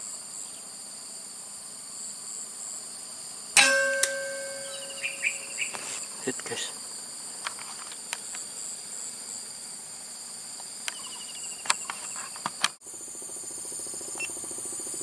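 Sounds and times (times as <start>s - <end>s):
insect chorus shrilling: 0.0s - 15.0s.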